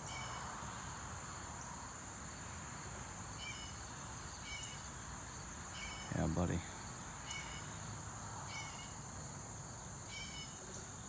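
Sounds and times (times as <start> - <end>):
faint background noise: 0.0 - 11.0
insect chorus drone: 0.0 - 11.0
short insect chirp: 0.0 - 11.0.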